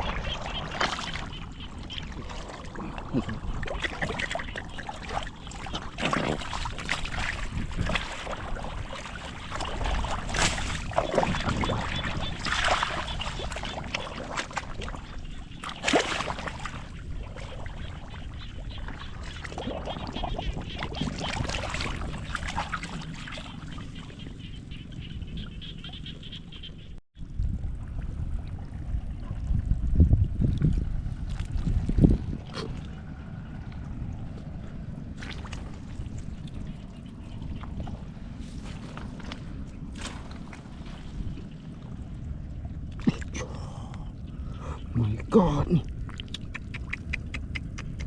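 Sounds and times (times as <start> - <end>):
muddy water sloshing and splashing: 0.0 - 26.6, 27.3 - 48.0.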